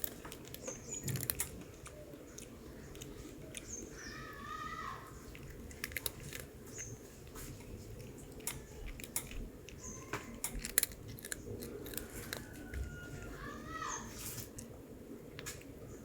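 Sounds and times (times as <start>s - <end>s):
cat crunching a hard snack: 0.0s - 13.4s.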